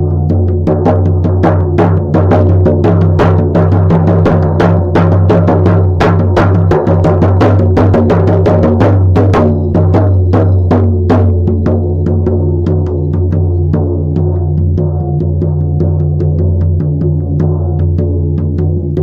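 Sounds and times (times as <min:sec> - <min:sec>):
frame drum beating: 0:00.0 - 0:19.0.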